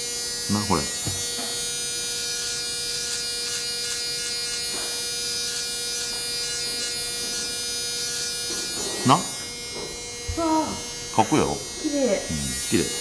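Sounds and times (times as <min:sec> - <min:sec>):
electric shaver buzzing: 0:00.0 - 0:13.0.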